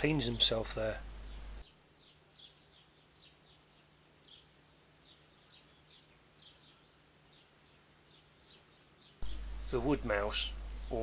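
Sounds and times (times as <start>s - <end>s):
small bird chirps: 0.0s - 11.0s.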